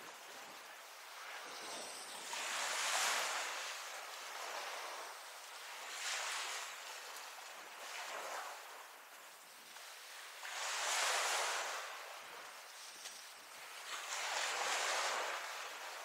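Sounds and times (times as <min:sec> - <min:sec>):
waves breaking on beach: 0:00.0 - 0:16.0.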